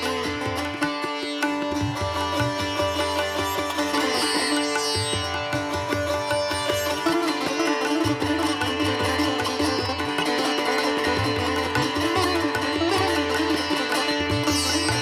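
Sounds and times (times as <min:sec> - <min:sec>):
plucked string melody: 0:00.0 - 0:15.0.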